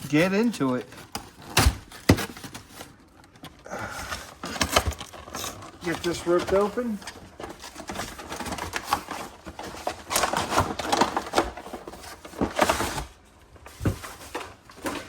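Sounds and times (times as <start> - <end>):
plastic wrap tearing and crinkling: 0.0 - 15.0.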